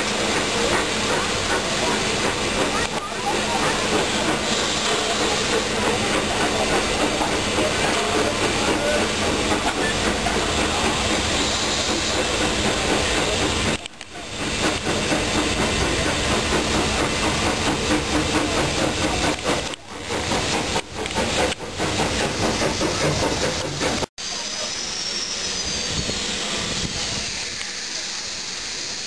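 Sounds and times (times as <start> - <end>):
rail and running-gear noise: 0.0 - 29.0
steam locomotives hissing: 0.0 - 29.0.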